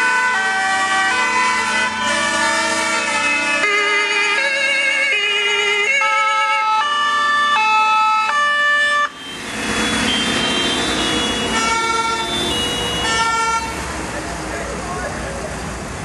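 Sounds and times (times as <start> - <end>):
two-tone sirens: 0.0 - 13.8
rumble of passing vehicles: 0.0 - 16.0.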